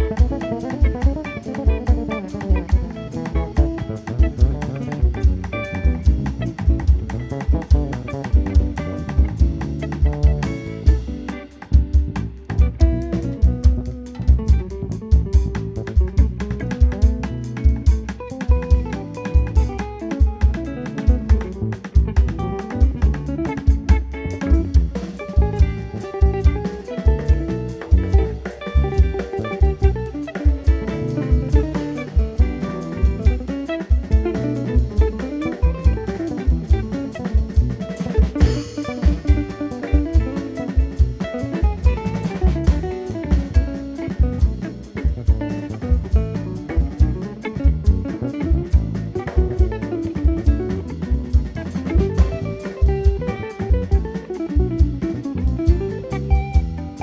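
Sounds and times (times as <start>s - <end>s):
bass: 0.0s - 57.0s
drum kit beat: 0.0s - 57.0s
guitar lines: 0.0s - 57.0s.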